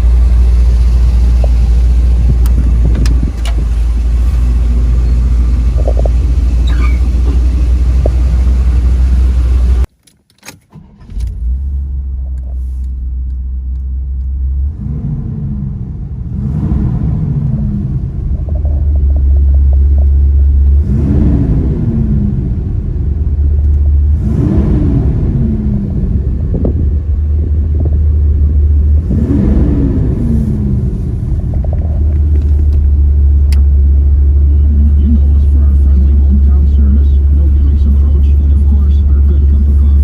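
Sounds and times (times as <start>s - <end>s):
car engine rumbling and revving: 0.0s - 9.9s, 10.5s - 40.0s.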